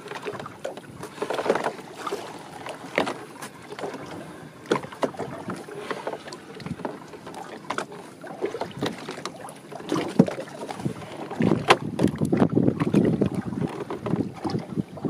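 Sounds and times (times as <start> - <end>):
line knocking and scraping on boat: 0.0 - 15.0
water slapping against hull: 0.0 - 15.0.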